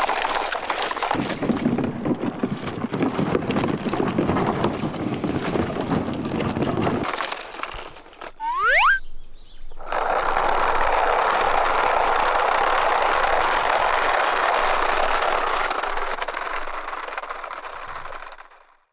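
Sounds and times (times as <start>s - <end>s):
toy truck rolling on asphalt: 0.0s - 18.9s.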